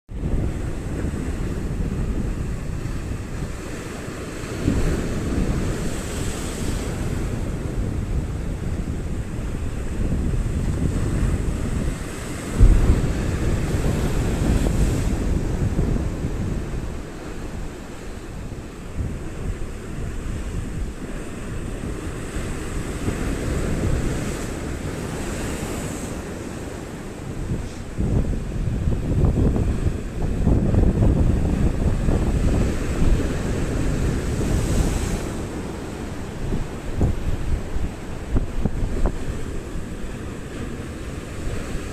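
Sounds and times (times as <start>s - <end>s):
ocean surf washing ashore: 0.1s - 41.9s
wave breaking: 0.1s - 41.9s
wind rumble on microphone: 0.1s - 41.9s.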